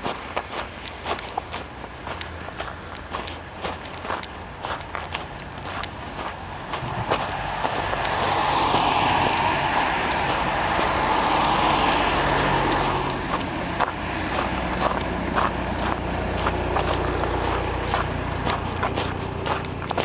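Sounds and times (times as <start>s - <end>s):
car passing on wet street: 0.0s - 20.0s
footsteps crunching in snow: 0.0s - 20.0s.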